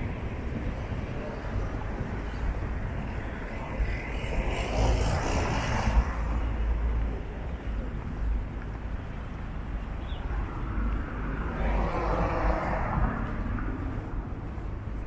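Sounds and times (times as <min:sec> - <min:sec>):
car passing: 0:00.0 - 0:08.4, 0:09.6 - 0:15.0
low rumble of street noise: 0:00.0 - 0:15.0.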